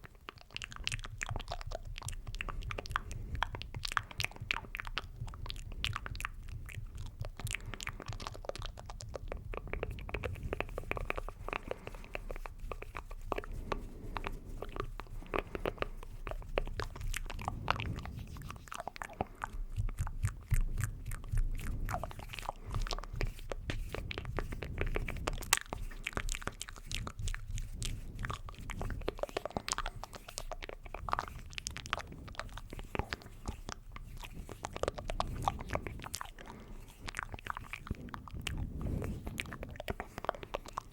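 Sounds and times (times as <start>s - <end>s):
mouth clicks and smacks: 0.0s - 40.9s.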